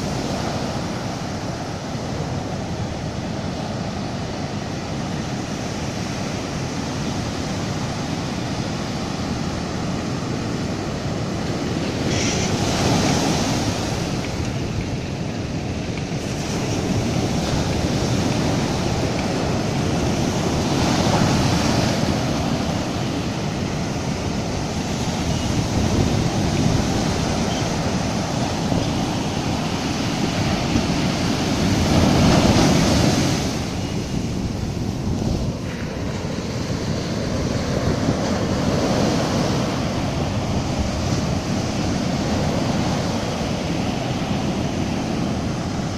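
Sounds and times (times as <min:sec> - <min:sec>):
waves washing up a beach: 0:00.0 - 0:45.9.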